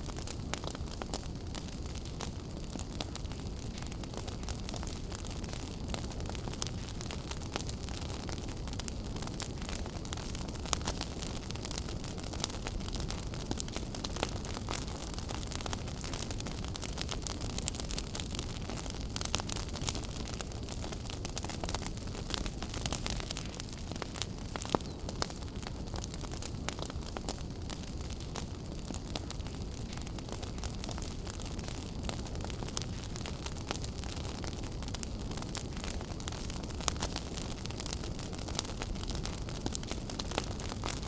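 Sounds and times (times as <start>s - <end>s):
fire crackles and pops: 0.0s - 41.0s.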